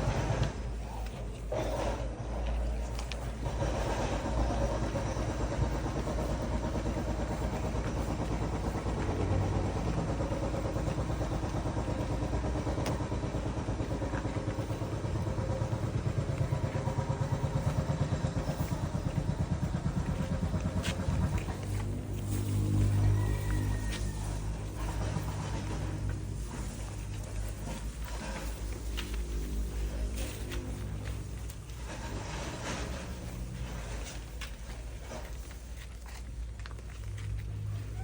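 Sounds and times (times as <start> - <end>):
small engine running: 0.0 - 38.0.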